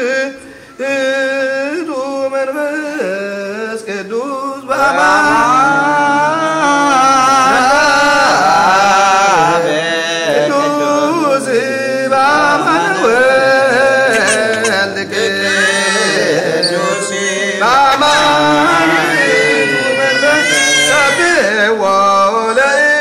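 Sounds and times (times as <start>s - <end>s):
voices chanting liturgy: 0.0s - 23.0s.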